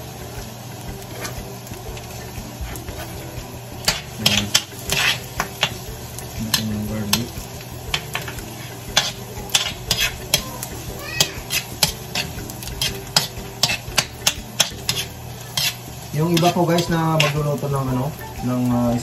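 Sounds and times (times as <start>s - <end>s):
metal spatula scraping wok: 0.0s - 18.2s
faint sizzle: 0.0s - 19.0s.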